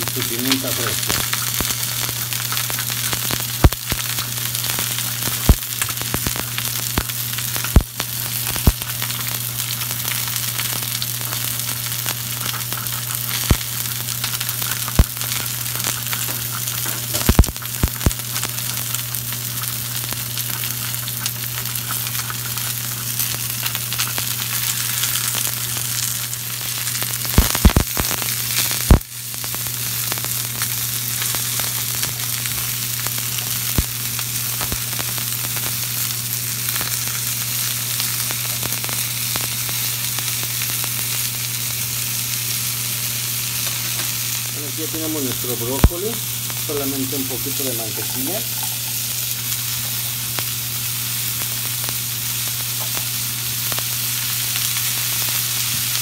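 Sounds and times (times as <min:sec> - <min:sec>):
broccoli sizzling in oil: 0:00.0 - 0:56.0.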